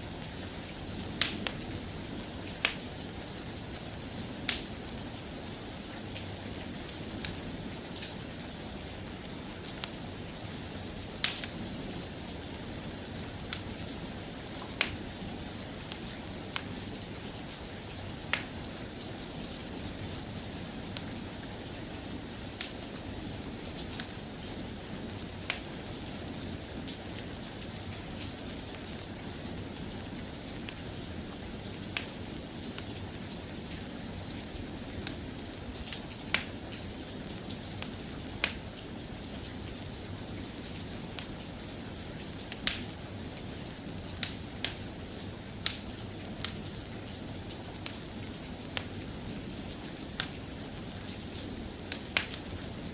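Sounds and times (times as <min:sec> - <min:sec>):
soft rain: 0:00.0 - 0:52.9.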